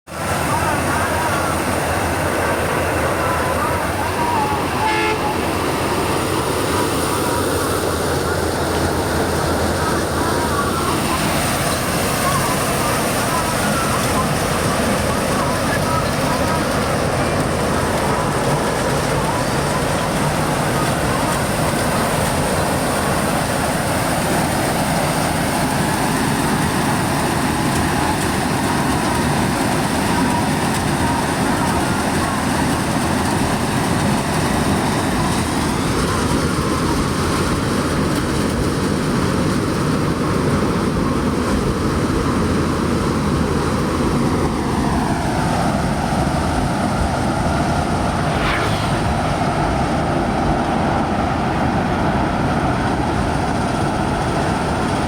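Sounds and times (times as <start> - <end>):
combine harvester engine drone: 0.1 - 55.0.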